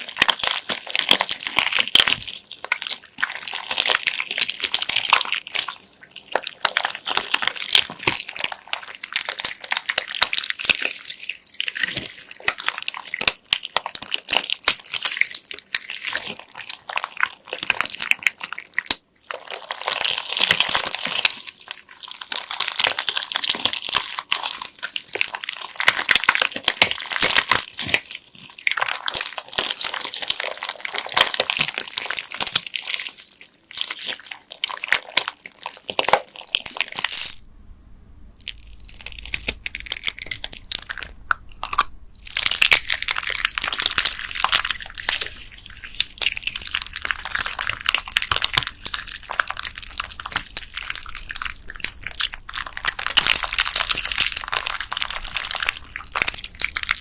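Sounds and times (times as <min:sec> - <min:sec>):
slime clicking and crackling: 0:00.0 - 0:37.4, 0:38.4 - 0:57.0.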